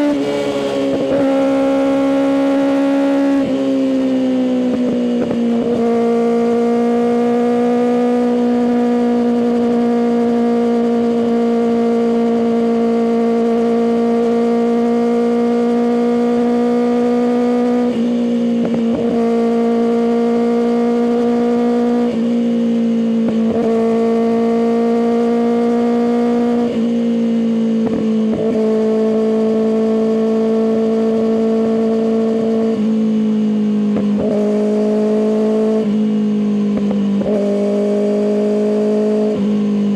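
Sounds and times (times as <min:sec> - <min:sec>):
motorcycle engine high-revving drone: 0:00.0 - 0:39.9.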